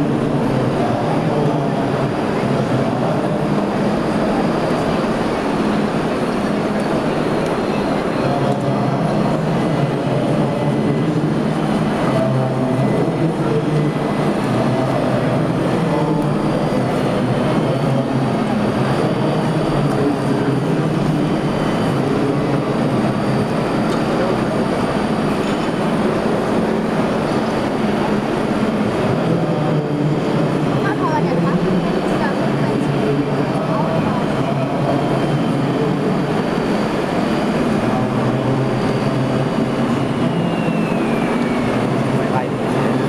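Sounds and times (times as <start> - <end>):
crowd rumble: 0.0 - 43.0
machinery rumble: 0.0 - 43.0.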